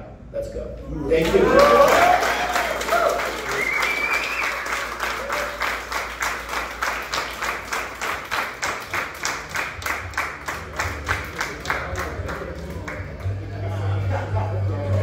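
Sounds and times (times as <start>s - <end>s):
crowd clapping in unison: 1.2s - 13.6s.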